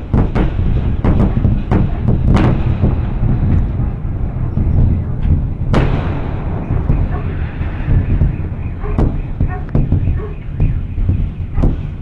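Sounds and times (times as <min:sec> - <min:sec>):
low rolling rumble: 0:00.0 - 0:12.0
sonic boom bangs: 0:00.0 - 0:12.0.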